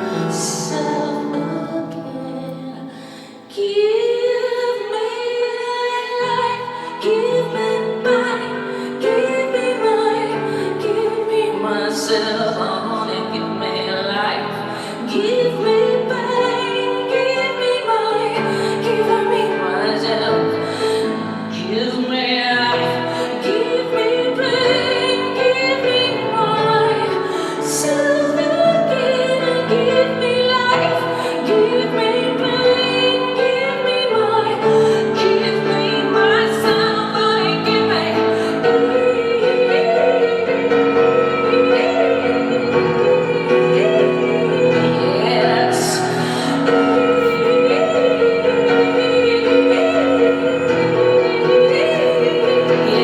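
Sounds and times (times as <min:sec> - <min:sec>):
piano and keyboard chords: 0:00.0 - 0:03.6, 0:05.9 - 0:53.0
woman singing wordless lines: 0:00.0 - 0:53.0.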